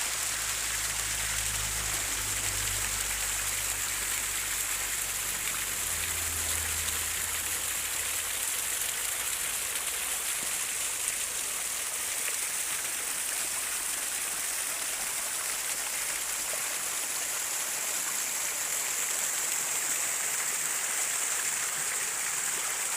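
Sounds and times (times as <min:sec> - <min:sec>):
running water rushing: 0:00.0 - 0:22.9.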